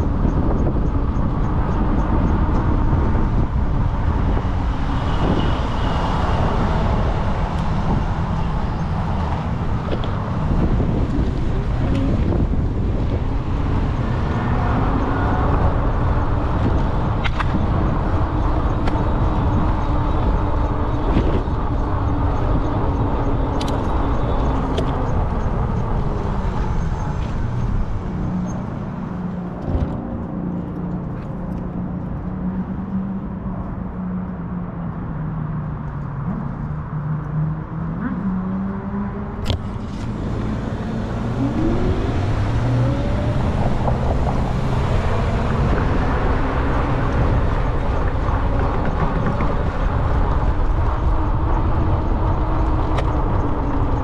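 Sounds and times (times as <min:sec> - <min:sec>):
road and wind noise: 0:00.0 - 0:54.0
traffic: 0:00.0 - 0:54.0.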